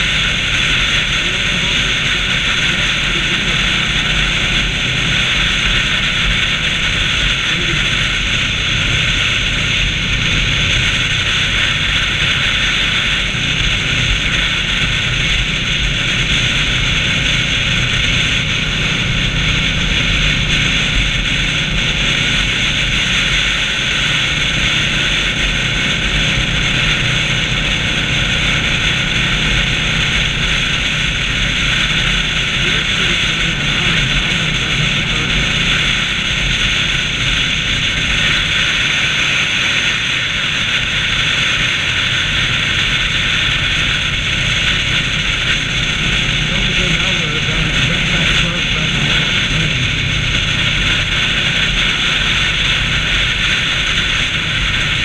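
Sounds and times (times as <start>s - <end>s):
motorcycle engine cruising: 0.0s - 55.0s
wind rushing over microphone: 0.0s - 55.0s.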